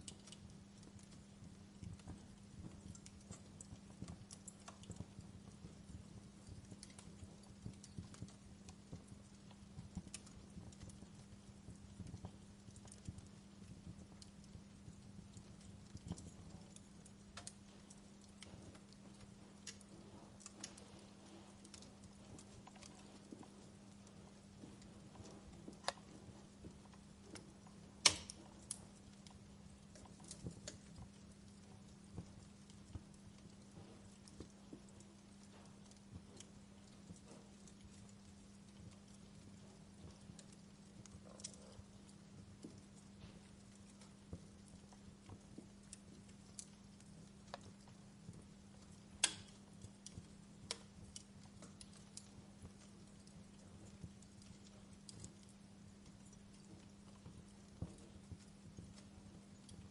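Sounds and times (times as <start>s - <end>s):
faint low hum: 0.0s - 59.9s
wood fire crackling: 0.0s - 59.9s.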